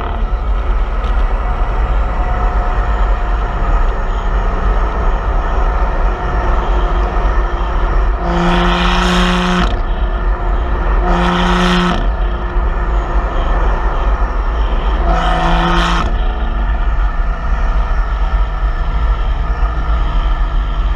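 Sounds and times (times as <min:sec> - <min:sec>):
car exhaust note: 0:00.0 - 0:20.9
road and wind rumble: 0:00.0 - 0:20.9.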